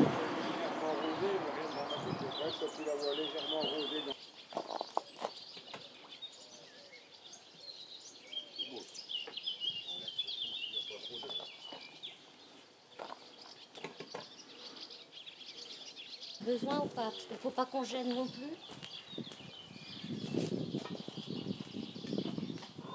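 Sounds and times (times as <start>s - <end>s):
songbird warbling and chirping: 0.0s - 22.9s.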